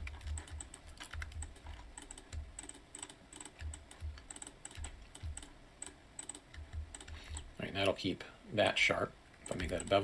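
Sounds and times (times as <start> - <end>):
keyboard and mouse clicking: 0.0 - 7.5, 9.4 - 10.0.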